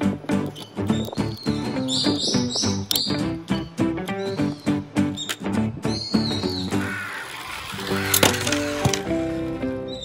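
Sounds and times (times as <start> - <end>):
chirpy background music: 0.0 - 10.0.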